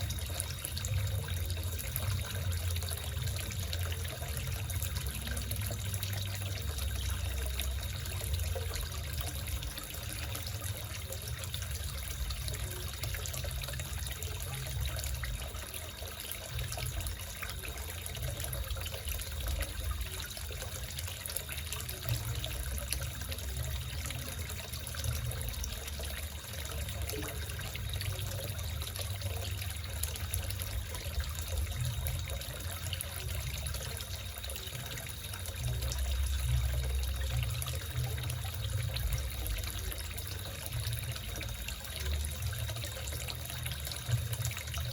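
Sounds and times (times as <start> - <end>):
water trickling into pond: 0.0 - 44.9.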